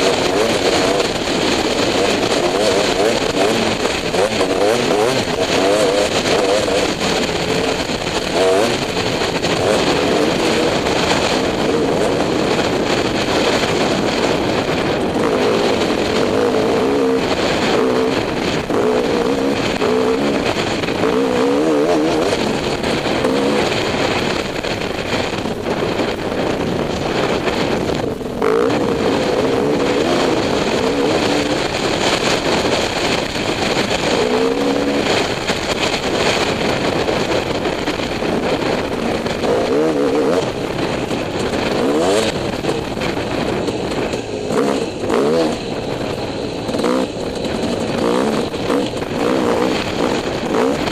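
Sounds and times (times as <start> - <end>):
dirt bike engine revving: 0.0 - 50.9
wind noise: 0.0 - 50.9.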